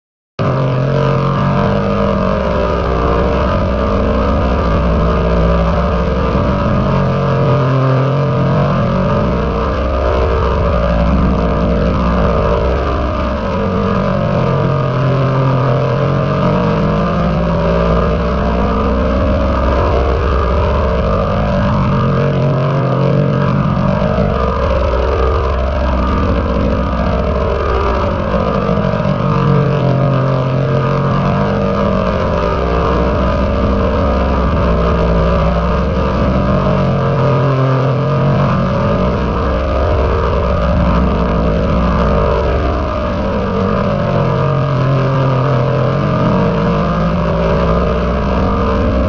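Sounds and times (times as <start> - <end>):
dense distorted drone: 0.4 - 49.0.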